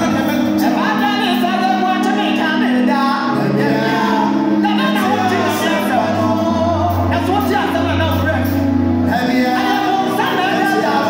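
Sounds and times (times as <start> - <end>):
group of singers singing: 0.0 - 11.0
keyboard: 0.0 - 11.0.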